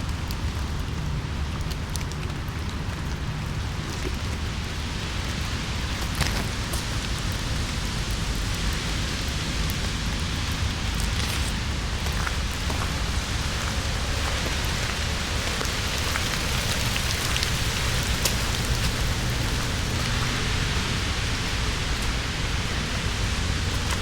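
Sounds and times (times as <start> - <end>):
drops ticking on leaves: 0.0 - 24.0
low steady rumble: 0.0 - 24.0
steady rain falling: 0.0 - 24.0.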